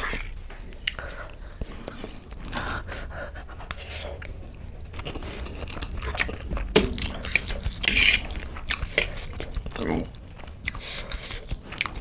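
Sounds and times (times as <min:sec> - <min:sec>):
person chewing crunchy food: 0:00.0 - 0:02.9, 0:03.6 - 0:12.0.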